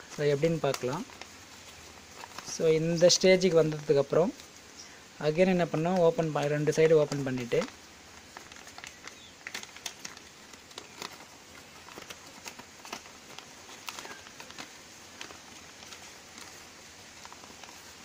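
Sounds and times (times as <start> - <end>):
paper crinkling: 0.0 - 18.0.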